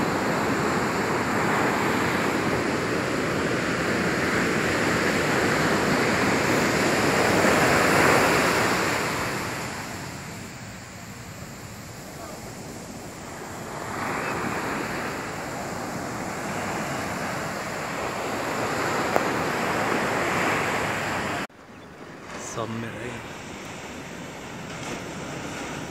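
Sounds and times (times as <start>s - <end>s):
surf breaking on beach: 0.0s - 25.9s.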